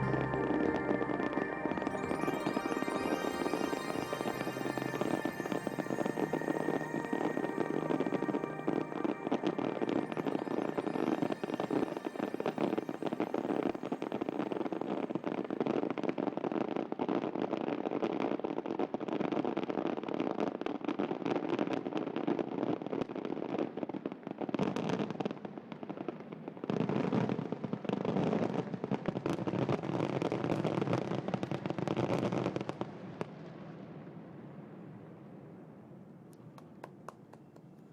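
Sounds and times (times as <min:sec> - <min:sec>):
fireworks bangs and crackling: 0:00.0 - 0:37.8.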